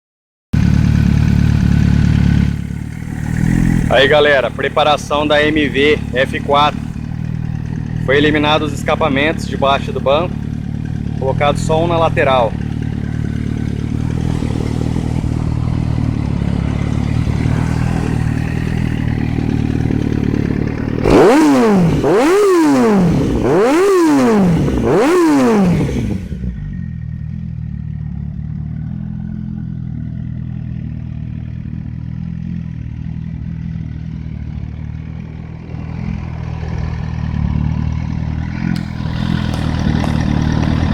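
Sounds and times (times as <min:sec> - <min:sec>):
motorcycle engine idling and revving: 0:00.6 - 0:40.9.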